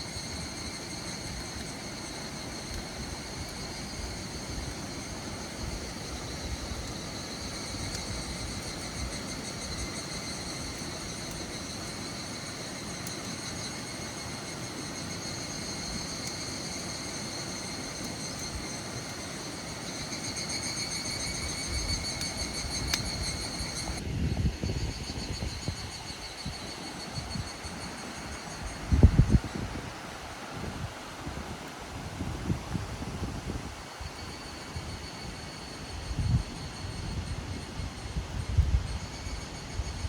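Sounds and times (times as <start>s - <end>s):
insects chorus: 0.0s - 40.0s.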